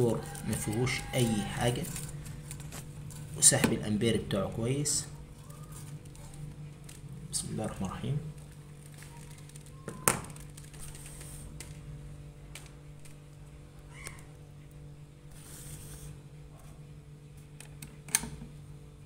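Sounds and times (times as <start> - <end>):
refrigerator compressor humming: 0.0 - 19.0.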